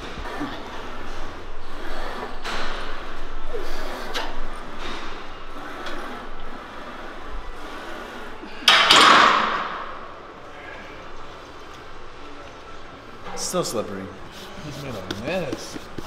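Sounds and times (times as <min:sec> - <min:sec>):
faint weight machine noises: 0:00.0 - 0:16.0.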